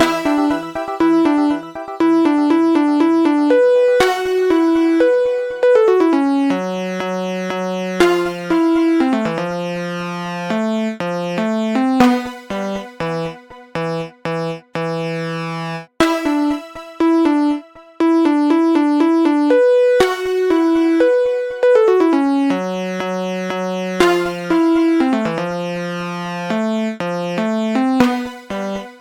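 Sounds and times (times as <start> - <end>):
synthesizer keyboard music: 0.0 - 29.0.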